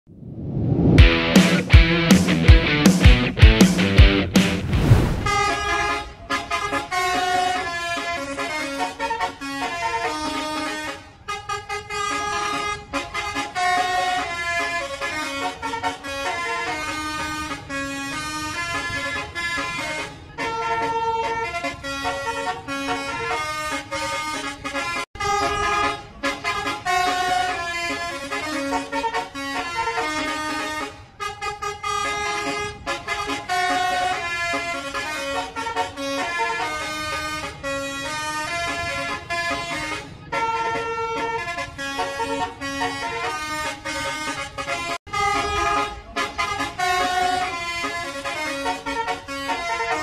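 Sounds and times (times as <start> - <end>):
multi-tone air horn tune: 5.3 - 50.0.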